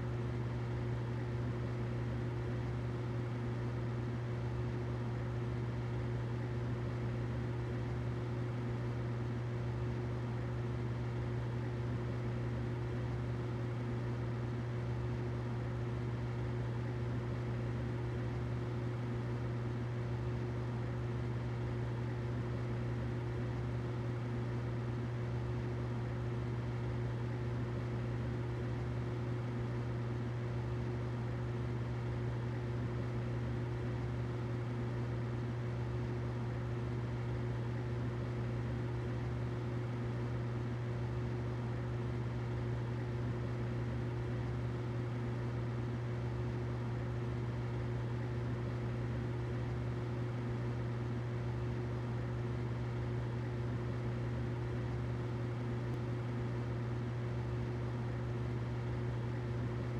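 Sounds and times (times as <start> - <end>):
humidifier humming: 0.0 - 59.9.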